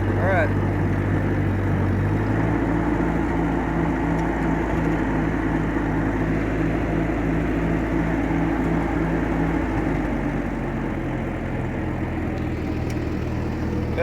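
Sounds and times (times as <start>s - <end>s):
tractor engine running under load: 0.0s - 14.0s.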